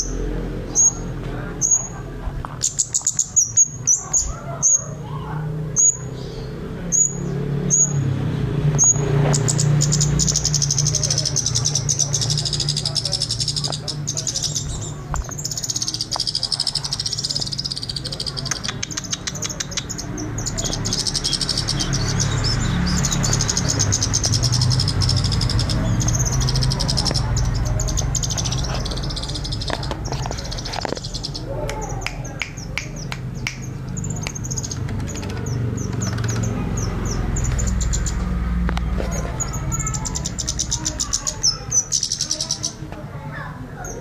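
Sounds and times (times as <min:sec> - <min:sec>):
bird twittering trills: 0:00.0 - 0:02.0, 0:02.6 - 0:42.8.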